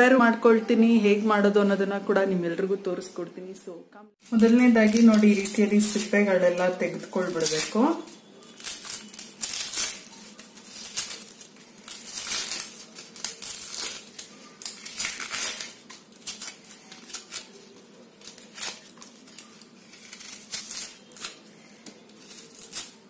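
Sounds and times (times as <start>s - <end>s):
onion skin crinkling and scraping: 4.2s - 23.0s.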